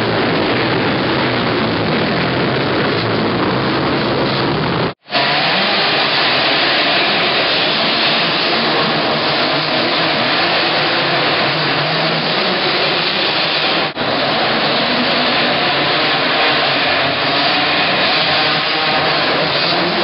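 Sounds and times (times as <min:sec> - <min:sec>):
two-stroke bike engines buzzing: 0:00.0 - 0:20.0.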